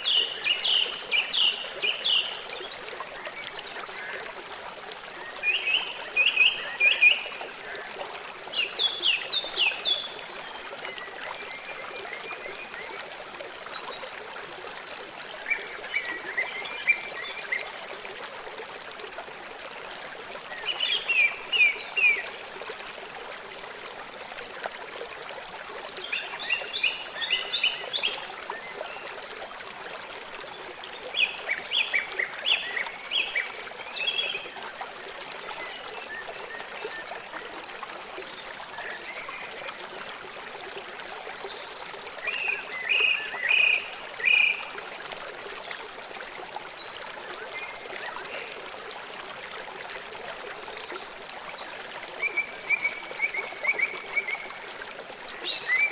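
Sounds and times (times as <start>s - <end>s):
forest stream rushing: 0.0s - 55.9s.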